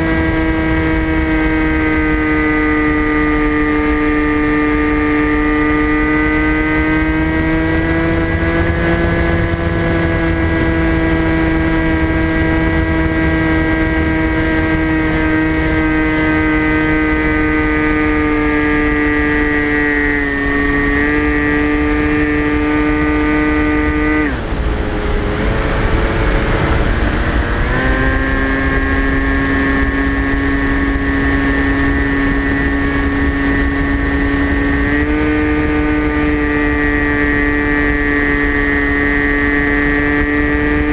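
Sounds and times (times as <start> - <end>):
electric motor propeller whine: 0.0 - 40.9
wind rush: 0.0 - 40.9.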